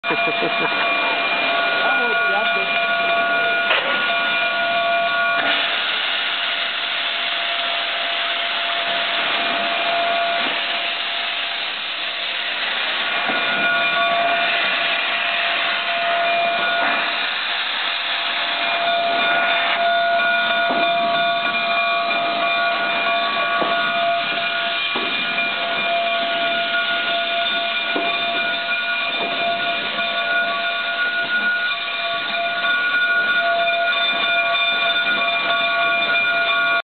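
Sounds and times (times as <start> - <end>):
steam locomotive hissing: 0.0 - 36.8.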